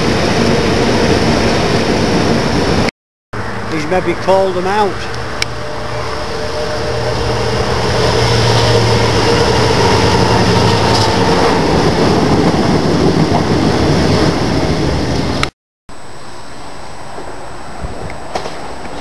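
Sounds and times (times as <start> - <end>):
wagons rumbling by: 0.0 - 15.4
locomotive engine drone: 0.0 - 19.0.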